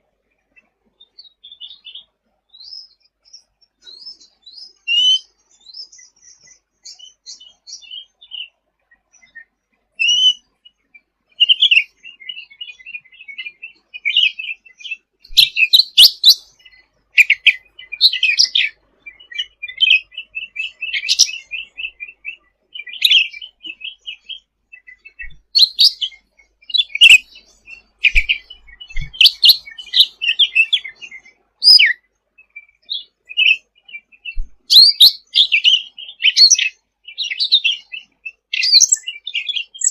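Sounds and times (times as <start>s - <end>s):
bird singing trills and chirps: 0.0s - 39.9s.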